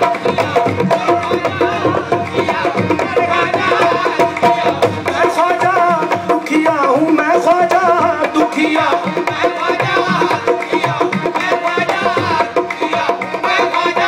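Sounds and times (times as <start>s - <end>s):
hand drums: 0.0s - 14.0s
harmonium holding notes: 0.0s - 14.0s.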